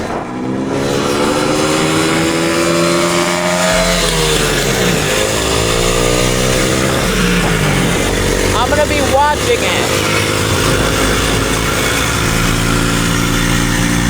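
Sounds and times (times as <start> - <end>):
dirt bike engine accelerating: 0.0 - 14.0.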